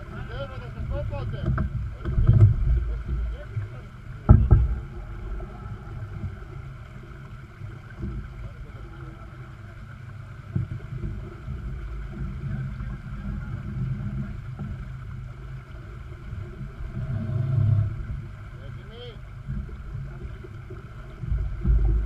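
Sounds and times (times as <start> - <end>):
boat moving through water: 0.0 - 22.0
wind rumble on microphone: 0.0 - 22.0.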